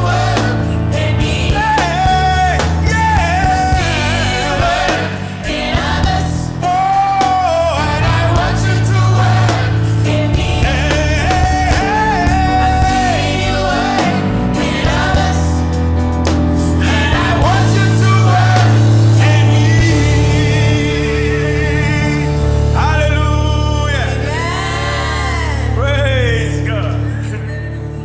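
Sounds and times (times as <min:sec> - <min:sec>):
band with bass and percussion: 0:00.0 - 0:28.0.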